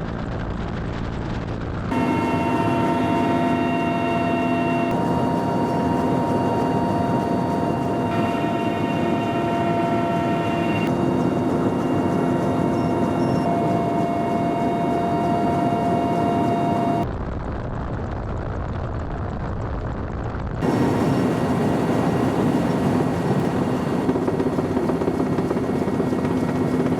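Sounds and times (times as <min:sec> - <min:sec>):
helicopter turbine whine: 0:00.0 - 0:17.1, 0:20.6 - 0:26.9
helicopter rotor and air rush: 0:00.0 - 0:26.9.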